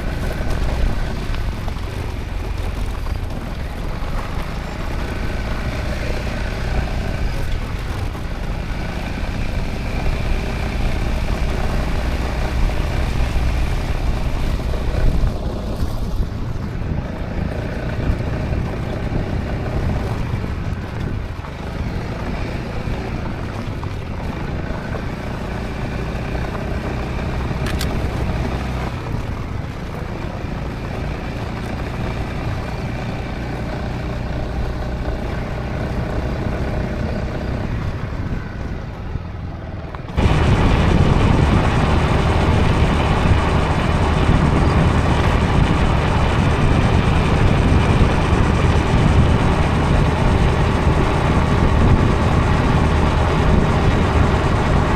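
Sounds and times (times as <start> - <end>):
scooter engine running: 0.0 - 54.9
wind and road noise: 0.0 - 54.9.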